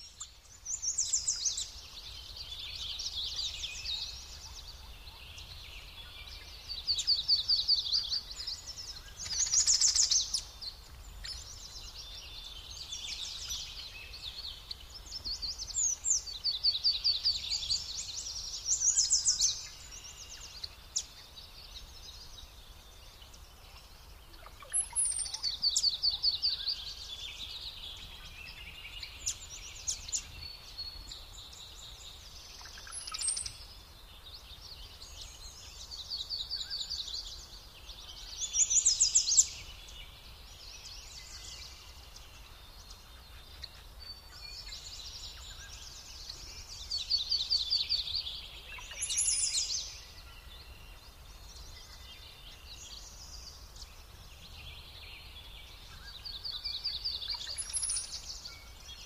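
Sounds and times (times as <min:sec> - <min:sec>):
faint low background noise: 0:00.0 - 0:59.0
songbirds singing trills: 0:00.0 - 0:59.0.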